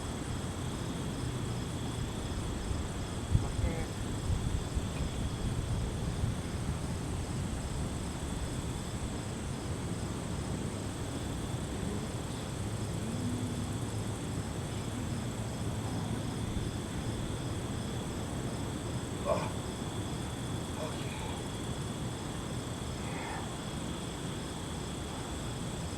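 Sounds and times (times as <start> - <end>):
constant low rumble: 0.0 - 25.9
crickets trilling: 0.0 - 25.9
insect chirping in an even pulse: 0.0 - 25.9.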